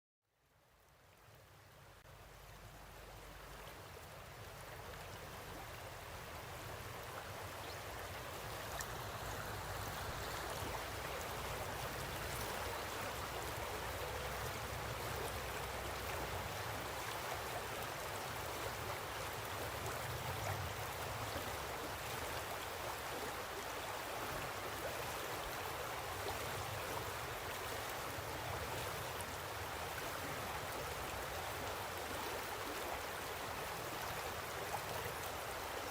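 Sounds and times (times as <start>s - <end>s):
river water flowing: 0.4s - 35.9s.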